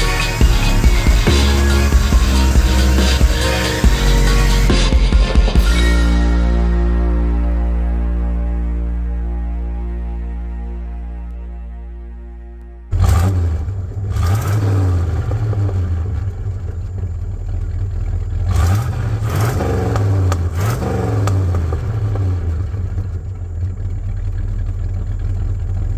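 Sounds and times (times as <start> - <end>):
truck engine rumbling and revving: 0.0 - 25.9.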